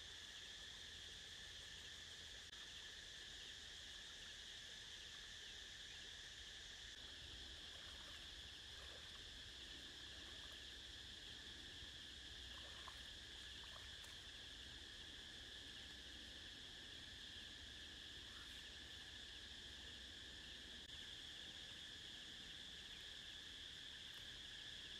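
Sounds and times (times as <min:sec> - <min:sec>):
insect chorus drone: 0:00.0 - 0:24.9.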